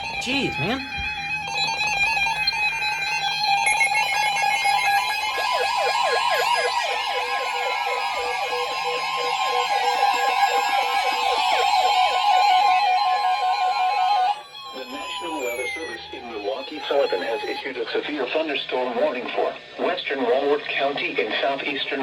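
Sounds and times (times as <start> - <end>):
rapid warbling alarm: 0.0 - 18.9
steady high tone: 0.0 - 19.5.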